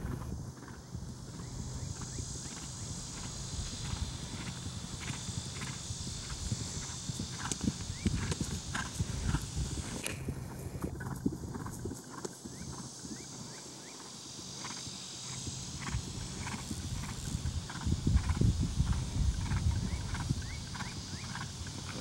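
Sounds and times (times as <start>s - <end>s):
horse hoofbeats on grass: 0.0s - 22.0s.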